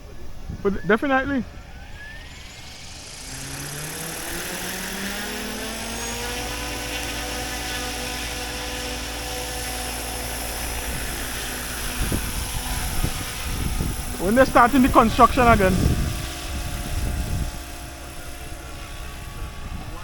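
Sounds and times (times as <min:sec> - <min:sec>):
rc helicopter rotor spooling up: 0:00.0 - 0:20.0.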